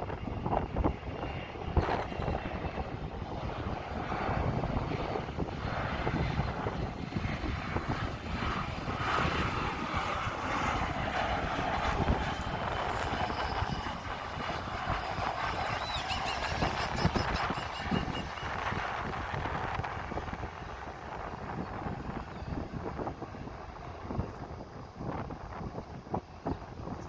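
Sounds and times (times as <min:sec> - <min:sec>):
airplane engines passing: 0:00.0 - 0:27.0
wind buffeting microphone: 0:00.0 - 0:27.0.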